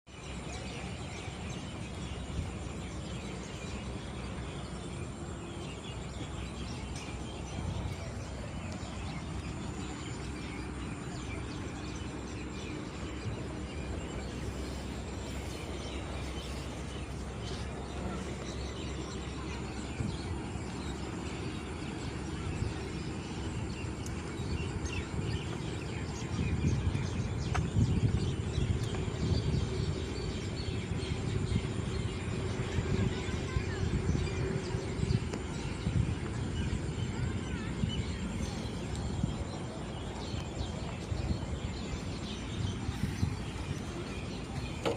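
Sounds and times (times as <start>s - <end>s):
small birds chirping: 0.1s - 44.9s
steady low rumble: 0.1s - 44.9s.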